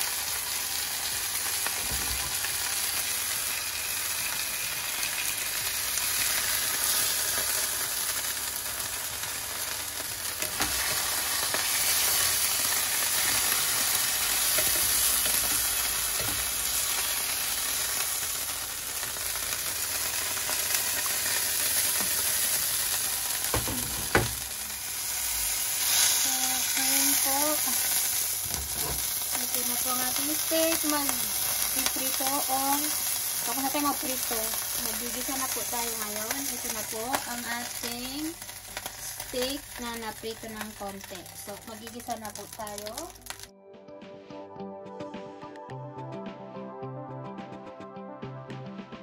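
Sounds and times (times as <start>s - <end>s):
meat sizzling in hot oil: 0.0s - 43.5s.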